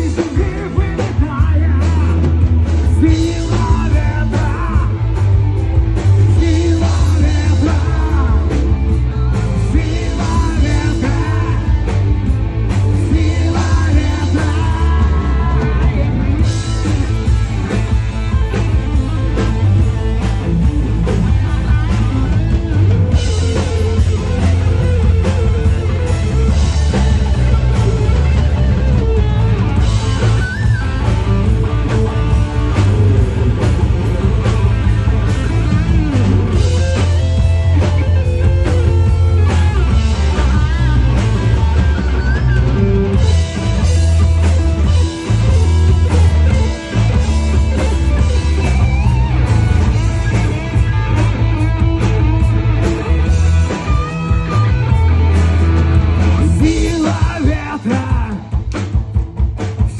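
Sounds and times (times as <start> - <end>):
electric guitar bending notes: 0.0 - 58.8
bass guitar: 0.0 - 59.9
drum kit: 0.0 - 59.9.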